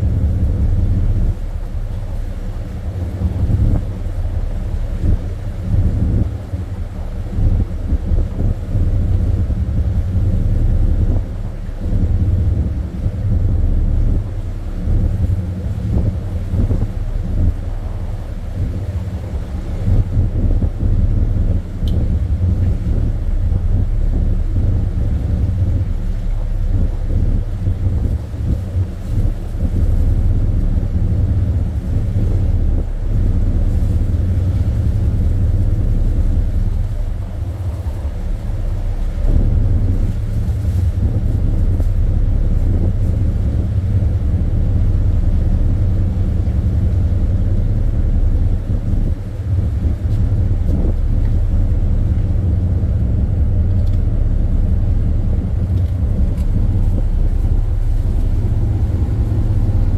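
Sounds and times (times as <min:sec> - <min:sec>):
ship engine rumble: 0:00.0 - 0:59.9.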